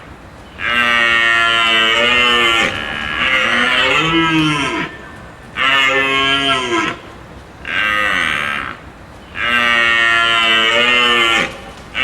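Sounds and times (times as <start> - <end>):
cow mooing: 0.6 - 7.0, 7.7 - 8.8, 9.4 - 11.6.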